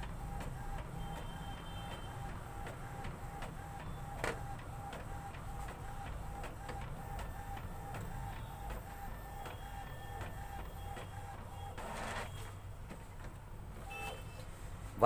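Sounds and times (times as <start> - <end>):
inkjet printer mechanism beating: 0.0 - 14.2.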